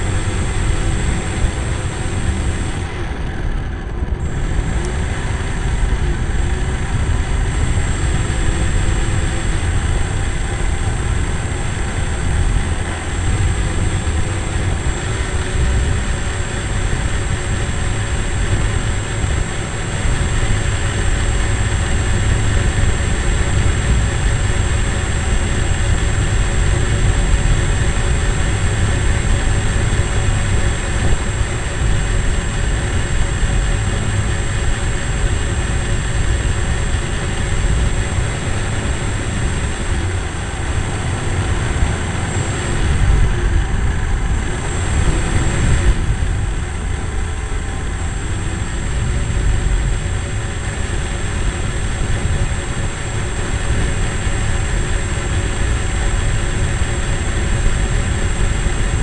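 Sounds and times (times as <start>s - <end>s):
model plane motor whining: 0.0s - 59.0s
rushing air rumble: 0.0s - 59.0s.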